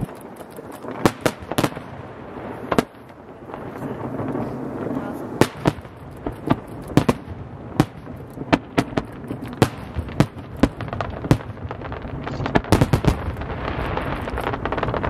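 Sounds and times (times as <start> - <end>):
fireworks bursting: 0.0 - 15.0
fireworks crackle and rumble: 0.0 - 15.0.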